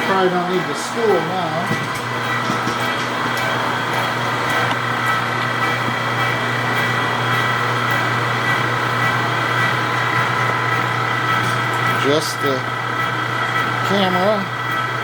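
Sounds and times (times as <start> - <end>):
metal lathe humming and whining: 0.0 - 15.0.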